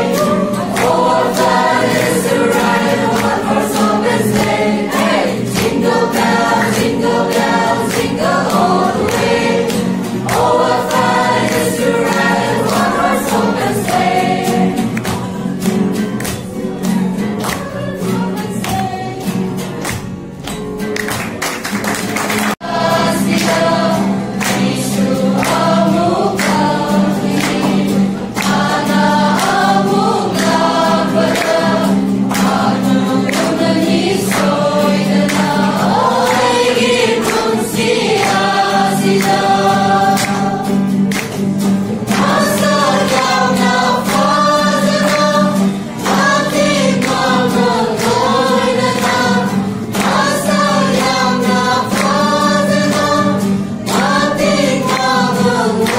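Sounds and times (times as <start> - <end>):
group of women singing: 0.0 - 19.8, 22.6 - 55.9
acoustic guitar: 0.0 - 55.9.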